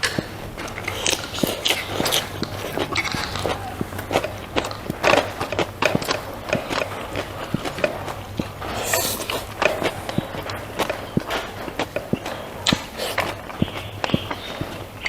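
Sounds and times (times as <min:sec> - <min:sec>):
mouth clicks: 0:00.0 - 0:15.0
person chewing food: 0:00.0 - 0:15.0.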